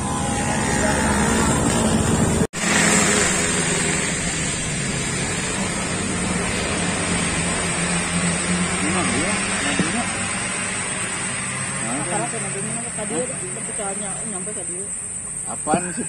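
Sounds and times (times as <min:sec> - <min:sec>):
steady droning hum: 0:00.0 - 0:16.0
vehicle engine on road: 0:00.0 - 0:16.0.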